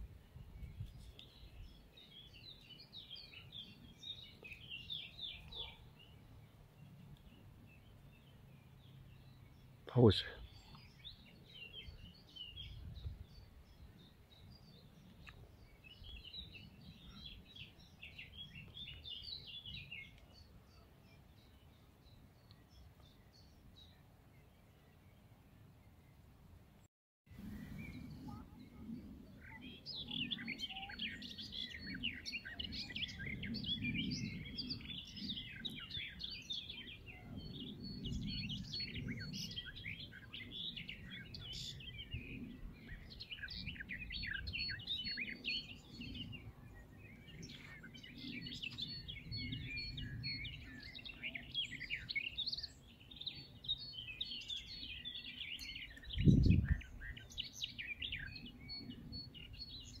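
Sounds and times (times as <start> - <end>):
songbirds chirping and trilling: 0.0 - 26.7, 27.3 - 60.0.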